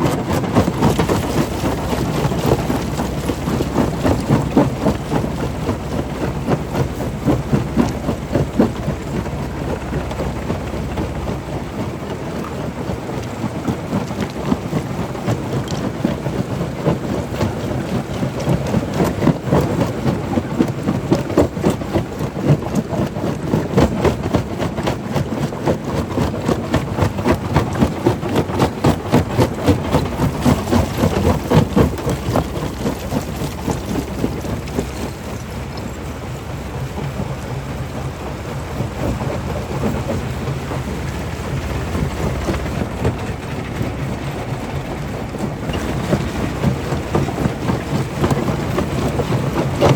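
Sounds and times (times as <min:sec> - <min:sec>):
stone crusher rumbling: 0:00.0 - 0:36.3, 0:36.9 - 0:49.9.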